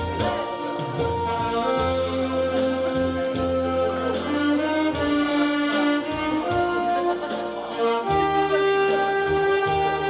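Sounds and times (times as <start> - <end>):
backing track with bass and beat: 0.0 - 10.0
saxophones playing slow melody: 0.0 - 10.0.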